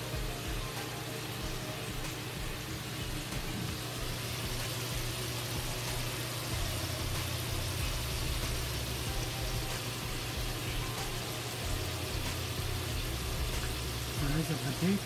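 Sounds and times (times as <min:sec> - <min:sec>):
oil sizzling and bubbling: 0:00.0 - 0:15.0.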